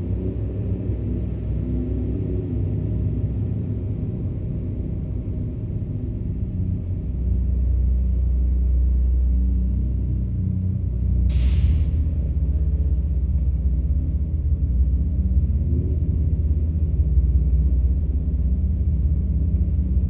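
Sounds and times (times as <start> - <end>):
low synthesizer drone: 0.0 - 20.0.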